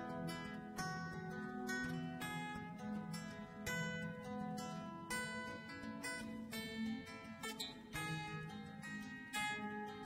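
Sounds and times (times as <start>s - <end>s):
plucked string instrument: 0.0s - 10.0s.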